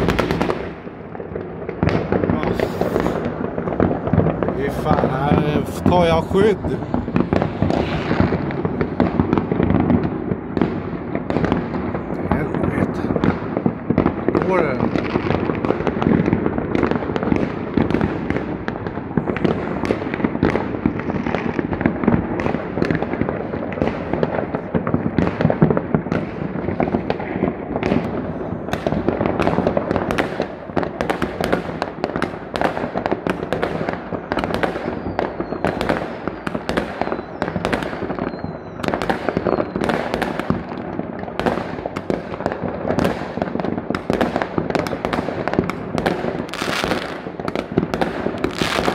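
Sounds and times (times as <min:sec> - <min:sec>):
fireworks bangs and crackles: 0:00.0 - 0:48.9
sharp firecracker bangs: 0:00.0 - 0:48.9.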